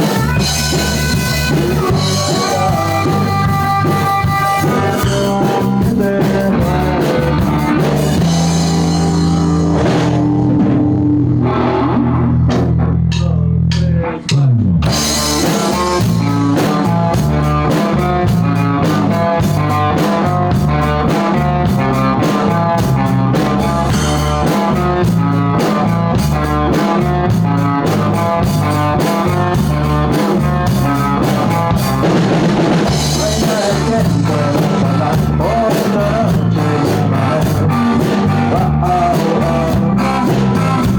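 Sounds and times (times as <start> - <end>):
guitar downward slide: 0.0 - 40.9
rock music with guitar and drums: 0.0 - 40.9.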